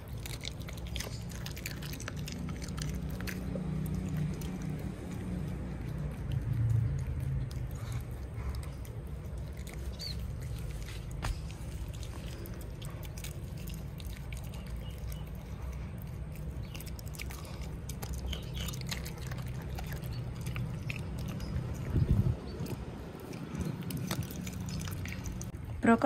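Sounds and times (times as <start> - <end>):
dog chewing and crunching: 0.0 - 26.0
low rumble: 0.0 - 26.0.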